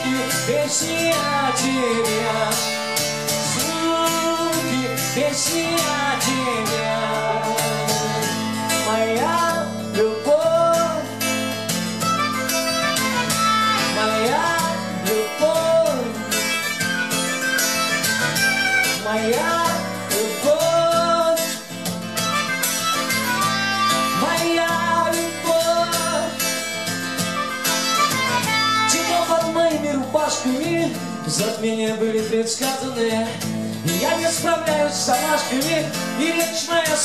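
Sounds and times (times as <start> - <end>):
harmonica solo with bent notes: 0.0 - 31.2
strummed acoustic guitar: 0.0 - 37.0.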